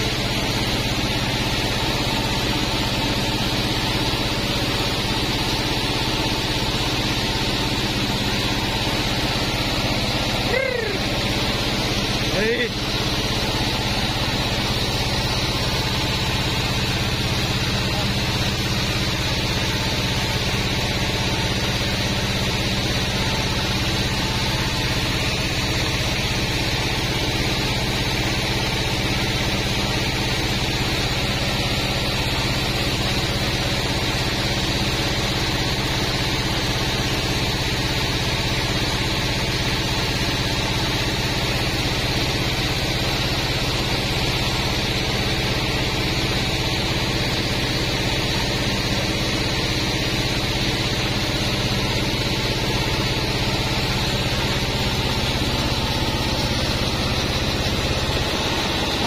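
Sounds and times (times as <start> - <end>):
band saw running: 0.0 - 59.0.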